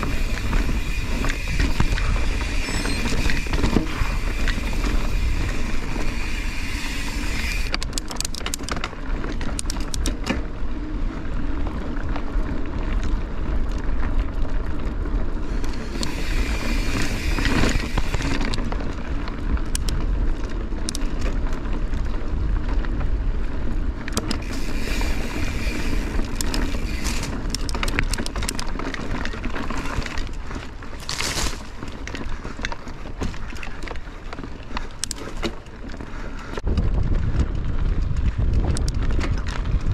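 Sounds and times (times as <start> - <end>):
tyres rumbling on stones: 0.0 - 10.3, 11.6 - 39.9
bike clicks and rattles: 0.0 - 39.9
wind rumbling on microphone: 0.0 - 39.9.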